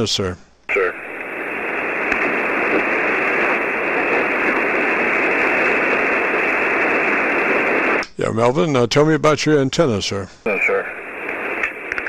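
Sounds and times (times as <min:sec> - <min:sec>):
radio receiver hiss: 0:00.0 - 0:08.2, 0:10.0 - 0:12.0.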